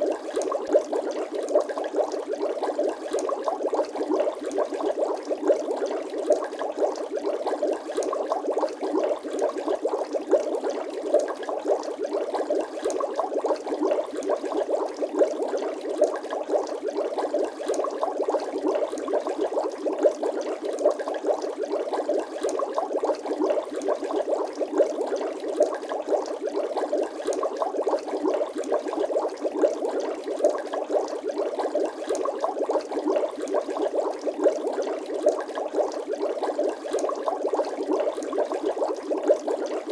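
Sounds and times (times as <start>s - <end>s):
bubbling water: 0.0s - 39.9s.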